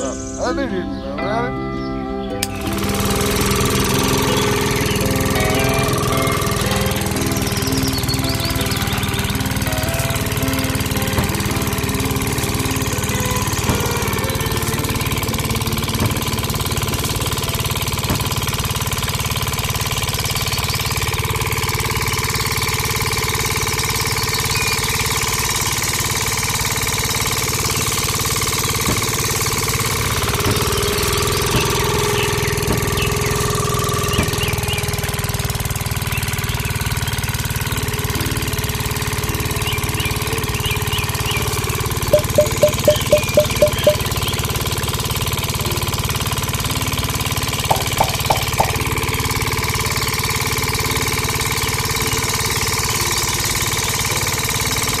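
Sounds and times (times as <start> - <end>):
engine idling: 2.1 - 55.0.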